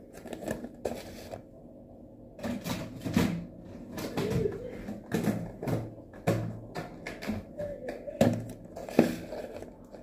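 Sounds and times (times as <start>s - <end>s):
plastic containers knocking and clattering: 0.0s - 1.5s, 2.4s - 10.0s.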